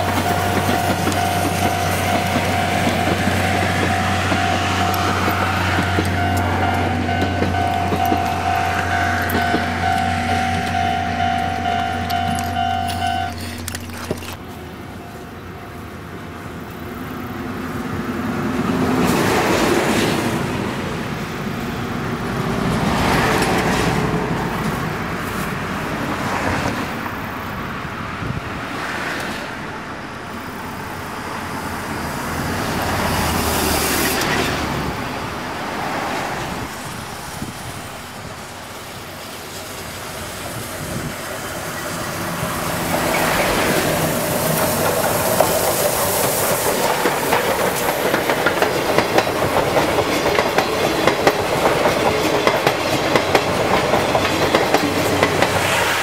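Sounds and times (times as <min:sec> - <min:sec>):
road vehicles passing: 0:00.0 - 0:56.0
steam locomotive approaching: 0:00.0 - 0:56.0.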